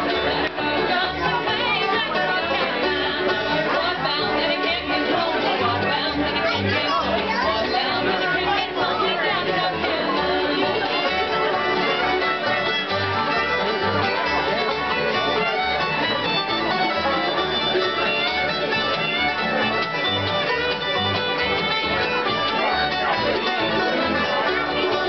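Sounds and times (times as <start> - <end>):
fiddle melody: 0.0 - 25.0
strummed acoustic guitar: 0.0 - 25.0
upright bass notes: 0.0 - 25.0.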